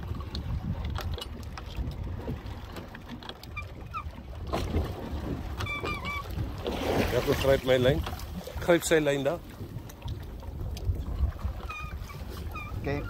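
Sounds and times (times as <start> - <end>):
boat engine rumble: 0.0 - 13.0
wind on microphone: 0.0 - 13.0.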